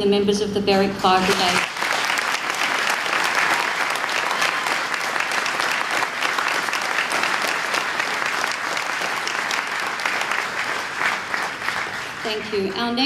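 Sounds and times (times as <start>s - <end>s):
audience applauding: 1.1s - 12.8s.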